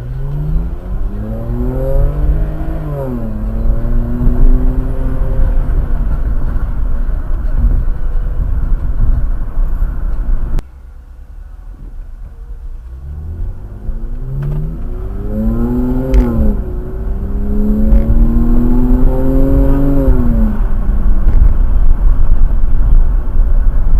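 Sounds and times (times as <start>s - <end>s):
car engine accelerating: 0.0s - 23.9s.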